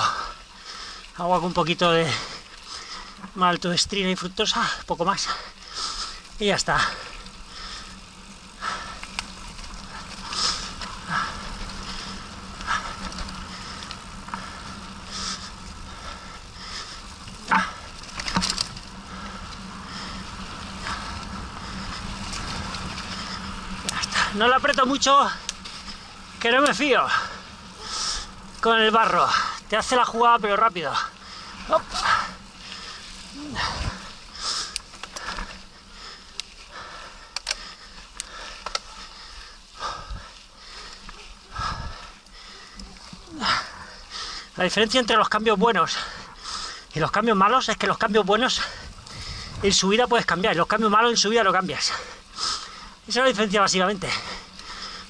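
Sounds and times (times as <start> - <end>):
rider breathing in bursts: 0.0 - 1.2, 1.8 - 3.4, 4.5 - 29.8, 30.6 - 47.4, 48.2 - 55.0
bike rattling over bumps: 0.0 - 55.0
bike tyres crunching on gravel: 0.0 - 55.0.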